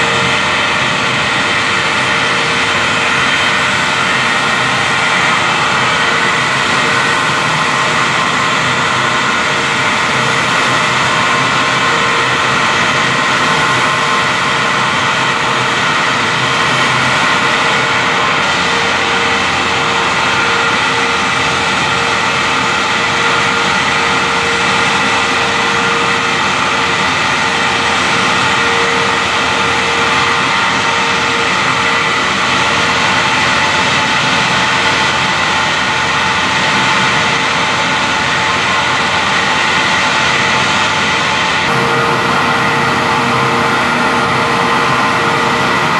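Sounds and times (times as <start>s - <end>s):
steady hum of held tones: 0.0s - 45.9s.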